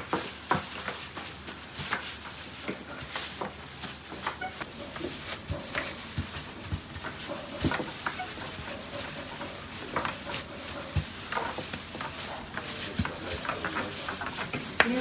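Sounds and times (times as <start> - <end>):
plastic gloves rustling: 0.0 - 15.0.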